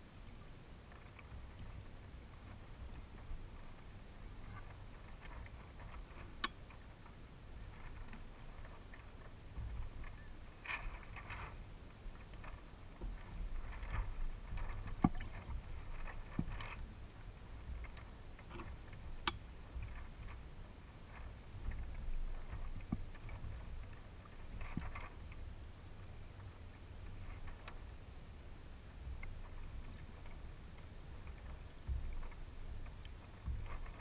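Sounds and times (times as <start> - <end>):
low steady rumble: 0.0 - 34.0
water lapping against hull: 0.7 - 34.0.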